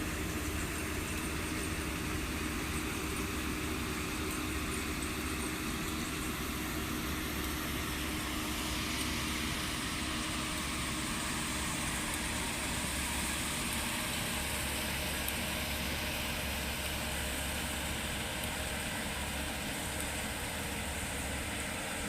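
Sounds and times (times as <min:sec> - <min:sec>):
harvesting machine engine running: 0:00.0 - 0:22.0.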